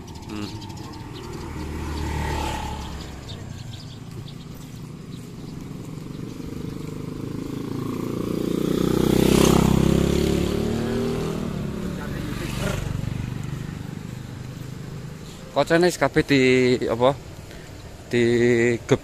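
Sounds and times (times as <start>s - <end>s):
motor scooters passing: 0.0s - 19.0s.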